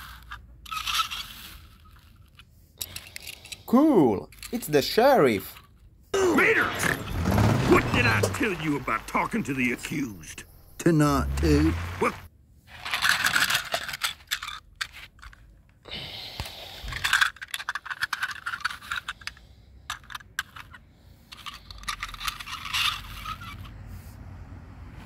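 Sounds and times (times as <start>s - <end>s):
toy cars scraping and clicking: 0.0s - 10.4s, 11.2s - 15.8s, 16.4s - 24.2s.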